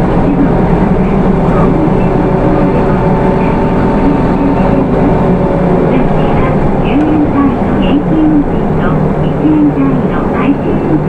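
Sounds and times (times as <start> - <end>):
diesel bus engine drone: 0.0 - 11.0.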